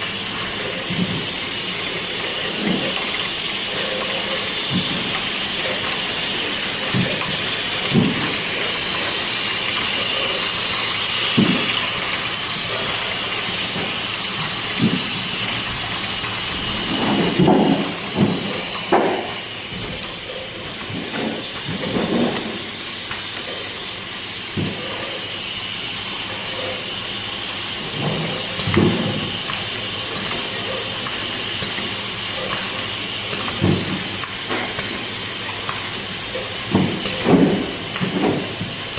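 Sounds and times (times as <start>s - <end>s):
filling line hissing: 0.0s - 38.9s.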